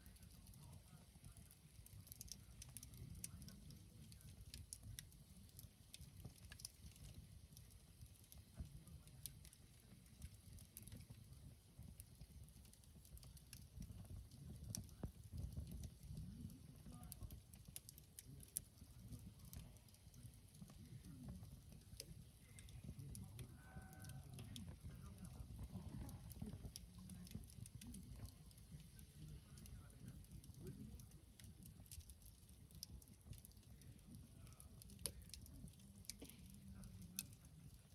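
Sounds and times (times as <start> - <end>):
campfire crackling and popping: 0.0 - 37.9.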